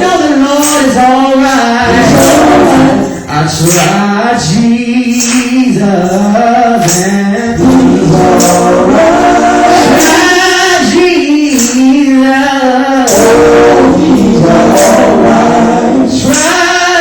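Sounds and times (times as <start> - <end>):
gospel music accompaniment: 0.0 - 17.0
singer holding long notes: 0.0 - 17.0.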